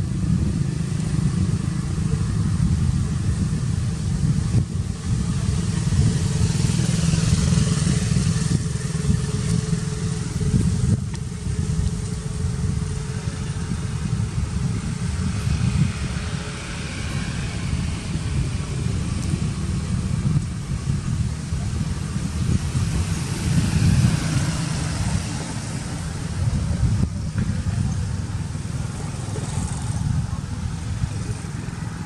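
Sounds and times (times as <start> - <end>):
low rumble of motor traffic: 0.0 - 32.0.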